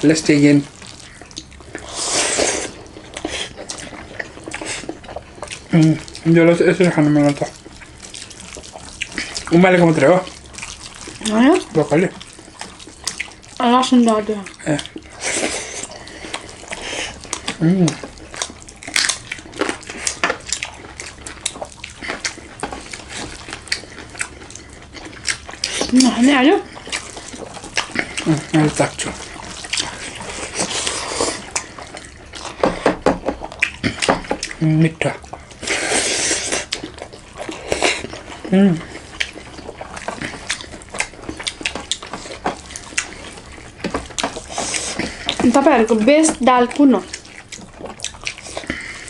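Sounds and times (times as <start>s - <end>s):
wet chewing: 0.0s - 49.0s.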